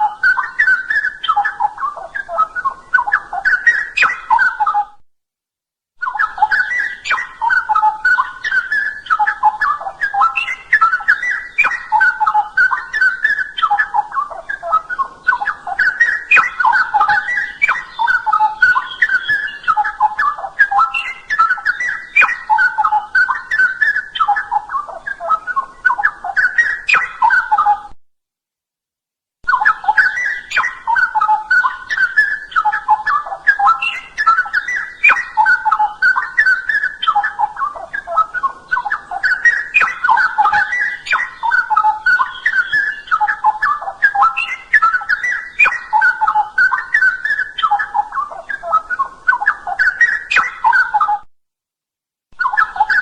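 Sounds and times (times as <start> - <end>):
bulbul warbling song: 0.0 - 4.9, 6.0 - 27.9, 29.5 - 51.2, 52.4 - 53.0.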